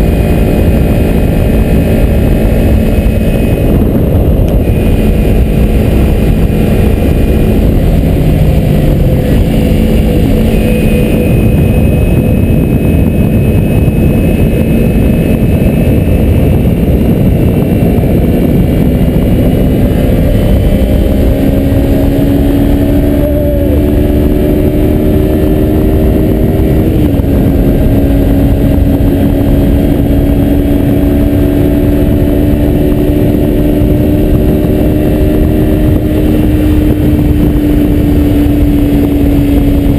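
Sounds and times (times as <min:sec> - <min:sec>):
motorcycle engine running: 0:00.0 - 0:39.9
wind noise rushing: 0:00.0 - 0:39.9.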